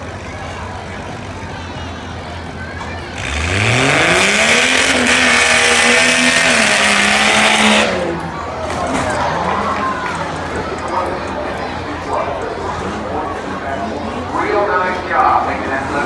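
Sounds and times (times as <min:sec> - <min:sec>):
truck engine idling and revving: 0:00.0 - 0:16.0.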